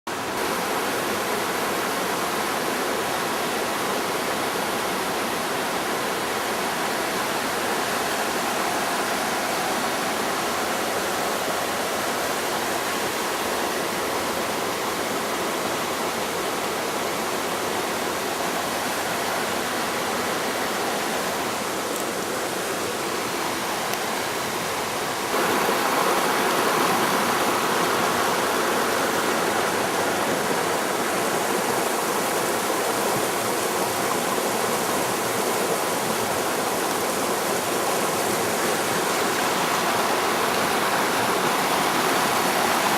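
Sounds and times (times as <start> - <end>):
stream water rushing: 0.1 - 42.9.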